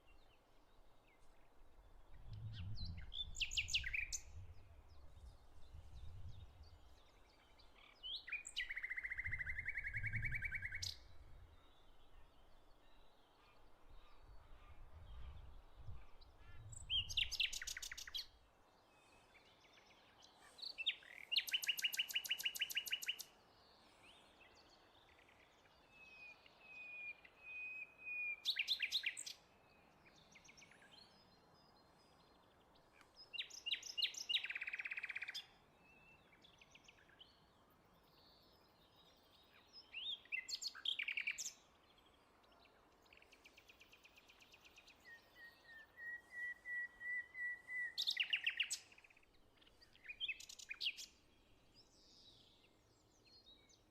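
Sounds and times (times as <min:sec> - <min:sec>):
faint bird chirps: 0:00.0 - 0:53.9.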